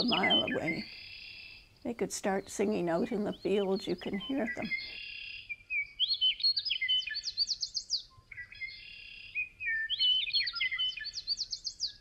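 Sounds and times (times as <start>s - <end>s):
bird singing whistled notes: 0.0s - 1.7s, 3.2s - 12.0s.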